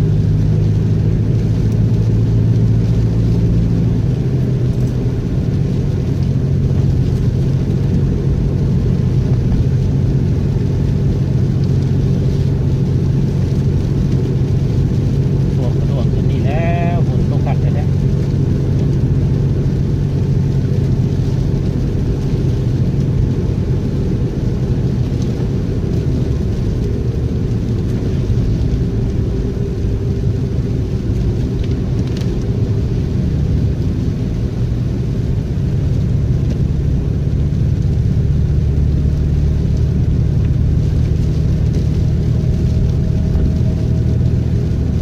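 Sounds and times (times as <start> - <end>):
car road rumble: 0.0 - 45.0.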